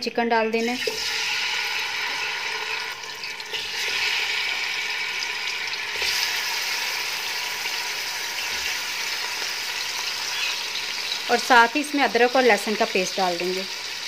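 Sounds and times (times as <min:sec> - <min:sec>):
chicken sizzling in hot fat: 0:00.6 - 0:14.0.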